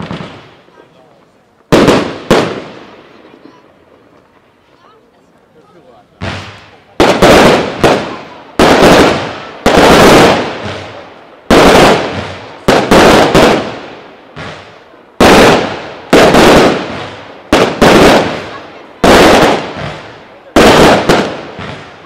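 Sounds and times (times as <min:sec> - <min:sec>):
fireworks bangs with echo: 0:00.0 - 0:04.6, 0:06.1 - 0:22.0.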